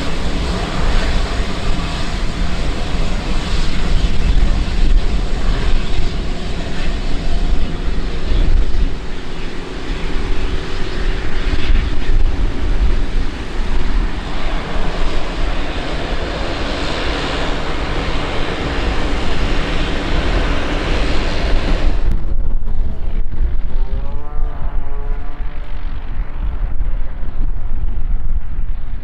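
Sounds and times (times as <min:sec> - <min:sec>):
turboprop engine running: 0:00.0 - 0:29.0.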